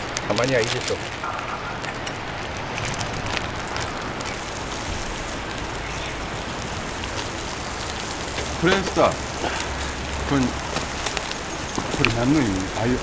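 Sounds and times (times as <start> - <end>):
fat sizzling on grill: 0.0 - 13.0.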